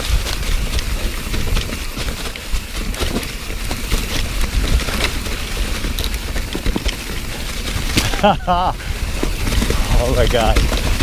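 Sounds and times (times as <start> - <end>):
bike clattering and rattling: 0.0 - 11.0
bike tyres rolling through leaves: 0.0 - 11.0
wind rumble on microphone: 0.0 - 11.0.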